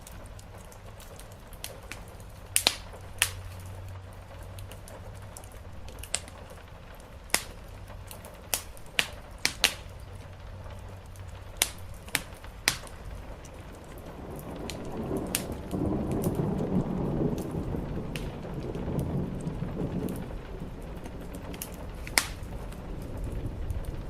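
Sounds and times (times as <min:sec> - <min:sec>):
rain hissing: 0:00.0 - 0:24.0
thunder rumbling: 0:00.0 - 0:24.0
wood fire crackling and popping: 0:00.0 - 0:24.0.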